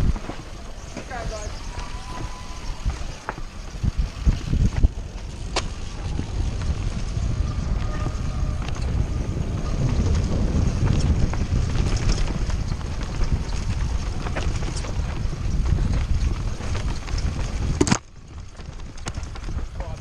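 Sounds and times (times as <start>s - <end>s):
bike rattling clicks and knocks: 0.0s - 20.0s
tyres rolling over rocky ground: 0.0s - 20.0s
wind rushing over microphone: 0.0s - 20.0s.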